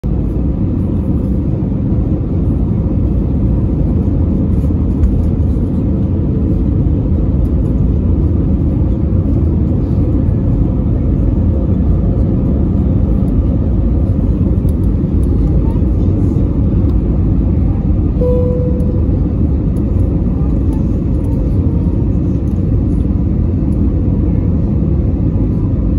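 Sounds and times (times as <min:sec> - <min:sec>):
airplane cabin engine rumble: 0:00.0 - 0:25.9.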